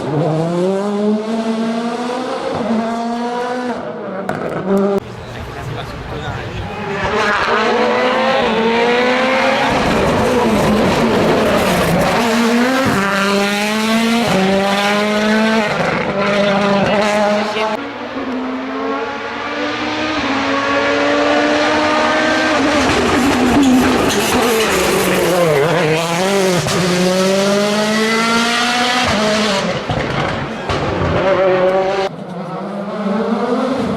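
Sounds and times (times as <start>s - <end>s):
rally car engine accelerating: 0.0s - 33.9s.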